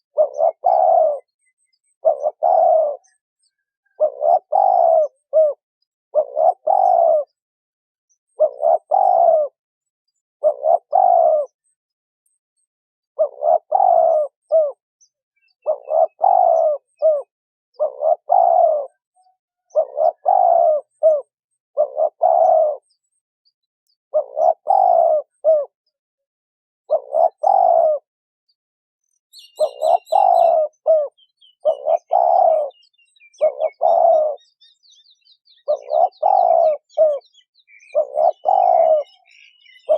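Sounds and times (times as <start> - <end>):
dove cooing: 0.0 - 7.4, 8.3 - 9.6, 10.4 - 11.8, 13.2 - 14.8, 15.4 - 23.2, 24.1 - 25.8, 26.8 - 28.1, 29.4 - 39.9
faint high bird chirps: 0.0 - 7.4, 8.0 - 26.0, 26.8 - 39.9.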